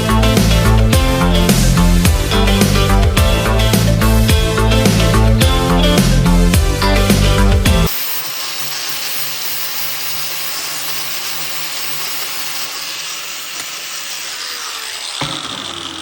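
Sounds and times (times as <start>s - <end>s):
grinder grinding steel bolt: 0.2s - 16.0s.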